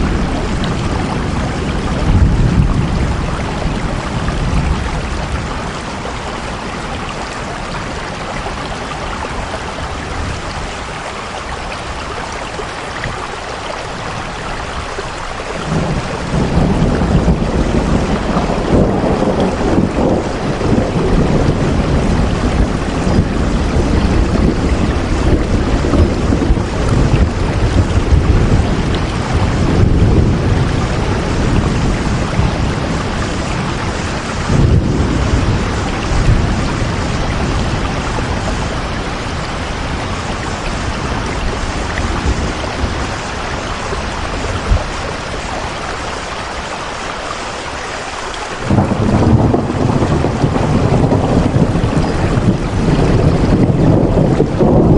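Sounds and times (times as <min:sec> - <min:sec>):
low rolling thunder: 0:00.0 - 0:46.7, 0:48.6 - 0:54.9
heavy rain: 0:00.0 - 0:54.9.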